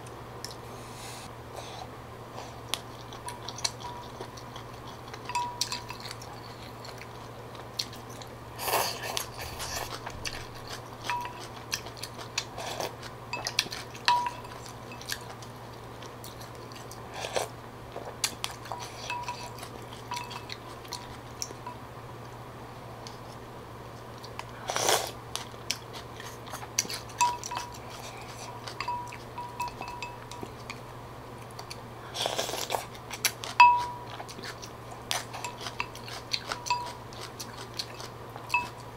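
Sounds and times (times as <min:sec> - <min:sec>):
quiet chewing: 0:00.0 - 0:22.4, 0:23.0 - 0:30.8, 0:31.4 - 0:38.9
steady low hum: 0:00.0 - 0:38.9.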